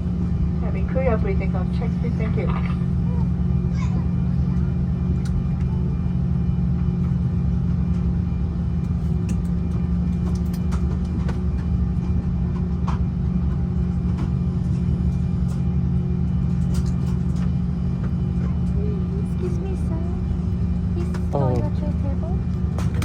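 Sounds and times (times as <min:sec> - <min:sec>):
airliner cabin drone: 0:00.0 - 0:23.0.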